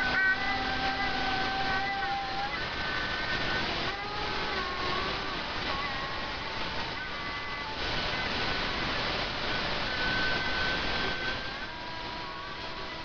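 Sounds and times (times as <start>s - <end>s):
distorted shouted note: 0.0s - 13.0s.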